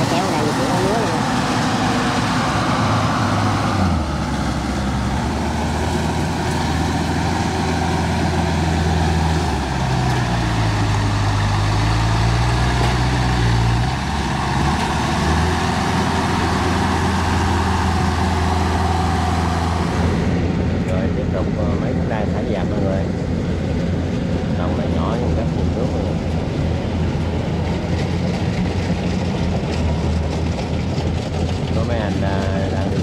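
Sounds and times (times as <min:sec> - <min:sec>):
small engine running under load: 0:00.0 - 0:33.0.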